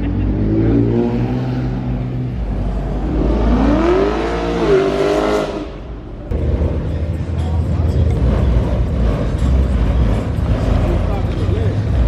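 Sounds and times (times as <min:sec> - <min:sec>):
car engine accelerating: 0:00.0 - 0:12.0
road noise: 0:00.0 - 0:12.0.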